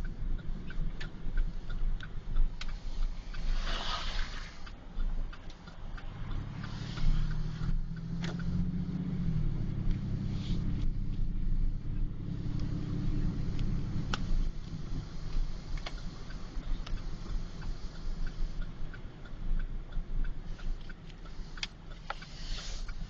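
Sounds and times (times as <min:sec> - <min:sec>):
car engine rumble: 0:00.0 - 0:23.0
turn signal clicking: 0:00.0 - 0:23.0.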